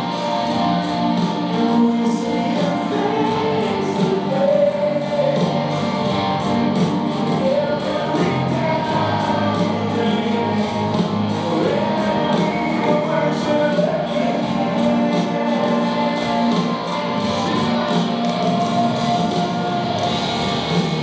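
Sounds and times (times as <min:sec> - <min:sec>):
guitars: 0:00.0 - 0:21.0
lead singer: 0:00.0 - 0:21.0
live rock band playing: 0:00.0 - 0:21.0
steady drumbeat: 0:00.0 - 0:21.0.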